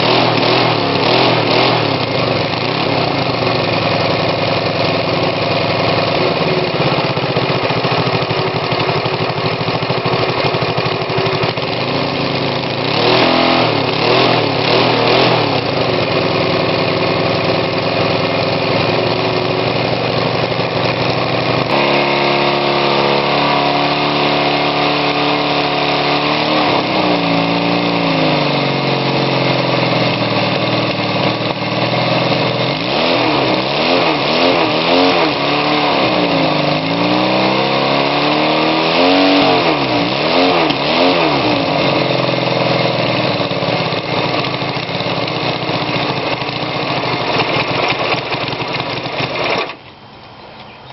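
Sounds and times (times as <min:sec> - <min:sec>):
engine revving: 0:00.0 - 0:49.8.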